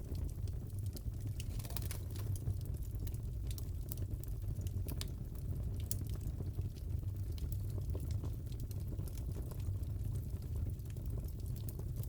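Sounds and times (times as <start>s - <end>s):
fire crackling and popping: 0.0s - 12.0s
fire rumbling: 0.0s - 12.0s.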